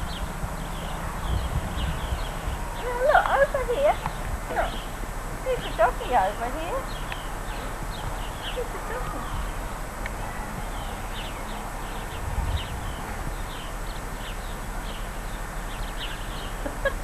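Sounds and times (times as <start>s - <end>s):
small birds chirping: 0.0s - 17.0s
steady hiss: 0.0s - 17.0s.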